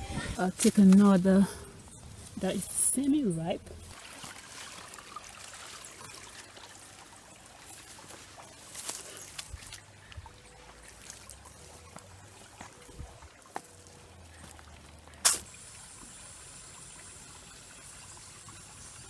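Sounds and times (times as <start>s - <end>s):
small stream trickling: 0.0s - 19.0s.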